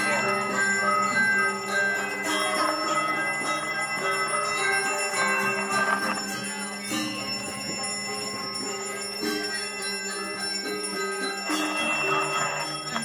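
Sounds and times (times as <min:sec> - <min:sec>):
brass handbell ringing: 0:00.0 - 0:13.0.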